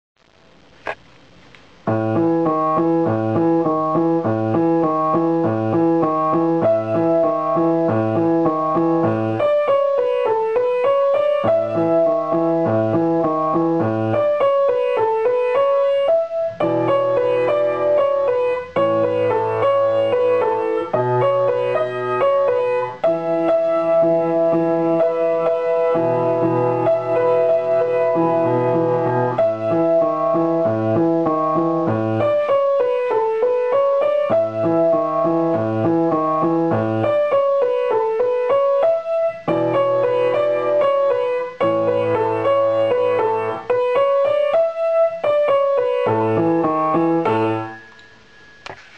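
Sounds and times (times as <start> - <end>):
grand piano playing: 1.9 - 48.9.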